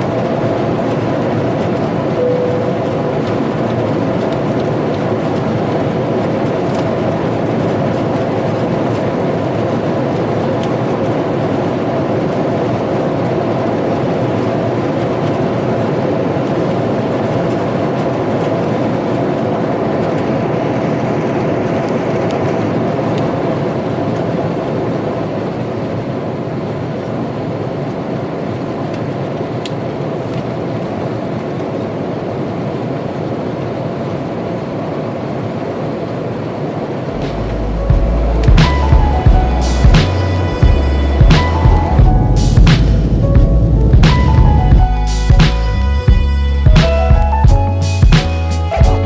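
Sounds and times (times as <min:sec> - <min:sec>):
airliner engines and airflow rush: 0:00.0 - 0:49.0
faint constant hum: 0:00.0 - 0:49.0.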